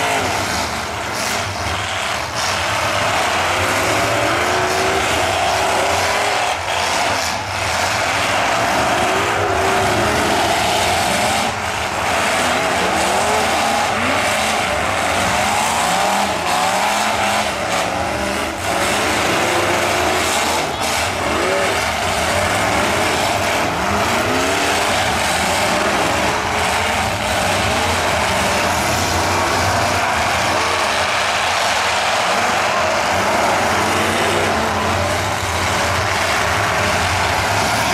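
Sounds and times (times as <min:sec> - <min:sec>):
truck engines revving: 0:00.0 - 0:37.9.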